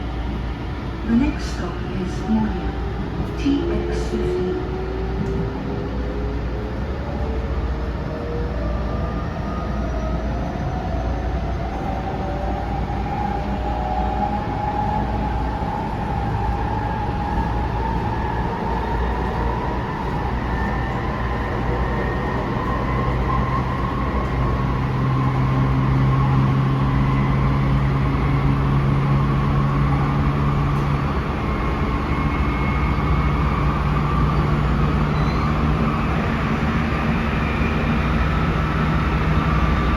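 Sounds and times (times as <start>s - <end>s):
wheels rumbling on track: 0.0s - 39.9s.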